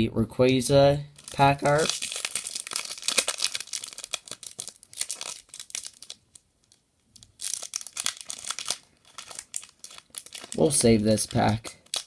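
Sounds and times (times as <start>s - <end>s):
foil wrapper crinkling: 1.2s - 12.0s.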